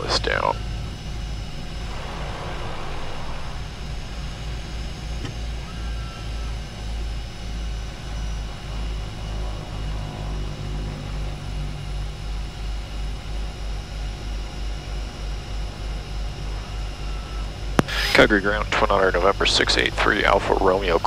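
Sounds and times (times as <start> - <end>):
propellers pulsing beat: 0.0 - 21.0
turbine whine: 0.0 - 21.0.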